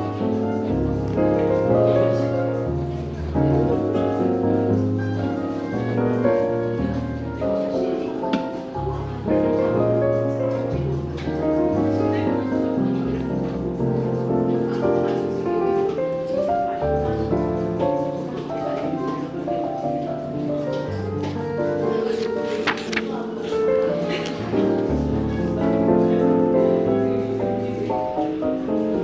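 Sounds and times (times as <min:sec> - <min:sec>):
smooth jazz piano: 0:00.0 - 0:29.0.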